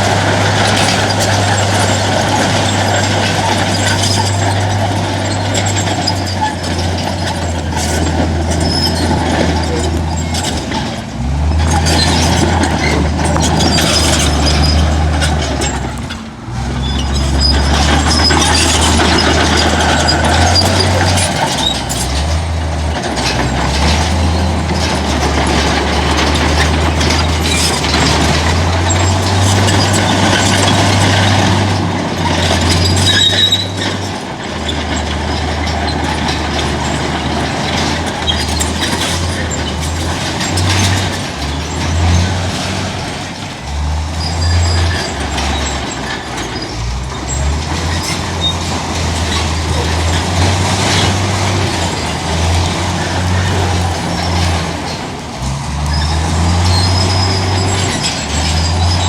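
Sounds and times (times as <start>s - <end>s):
diesel earthmoving machinery running: 0.0s - 59.0s
high metal squeals: 0.0s - 59.0s.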